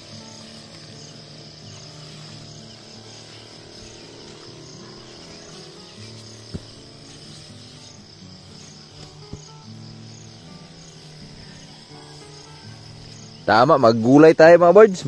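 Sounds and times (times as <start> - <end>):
insect chirring: 0.0 - 15.0
soft background music: 0.0 - 15.0.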